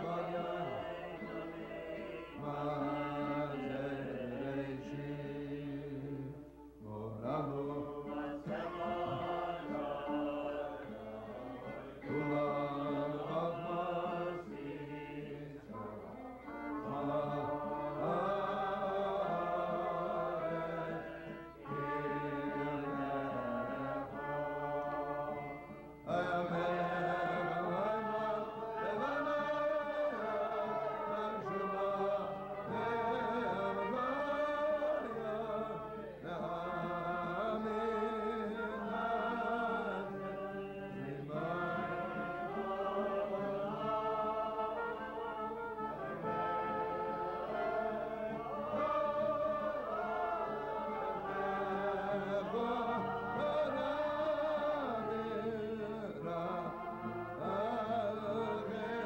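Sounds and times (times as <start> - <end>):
acoustic guitar: 0.0 - 59.0
man singing prayer melody: 0.0 - 59.0
other voices singing along: 0.0 - 59.0.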